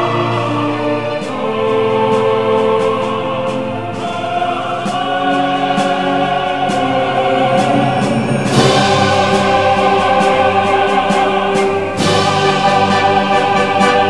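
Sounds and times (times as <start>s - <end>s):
choir singing held notes: 0.0s - 14.0s
orchestral film music: 0.0s - 14.0s.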